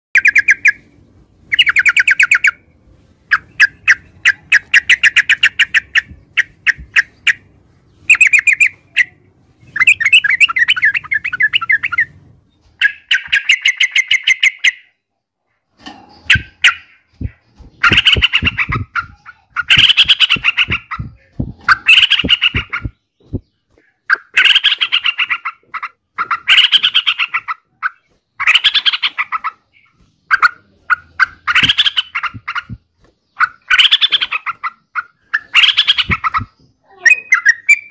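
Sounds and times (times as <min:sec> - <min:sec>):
bird singing chattering notes: 0:00.2 - 0:15.0, 0:16.0 - 0:37.9.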